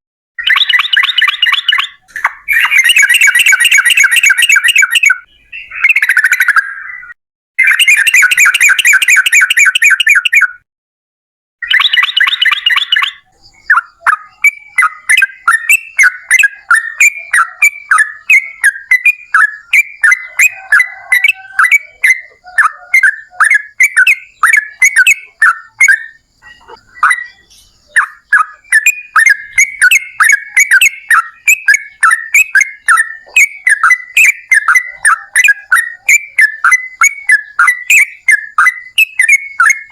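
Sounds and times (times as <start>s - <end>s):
bird singing: 0.4s - 10.6s, 11.6s - 39.9s
harsh bird call: 0.4s - 10.6s, 11.6s - 39.9s.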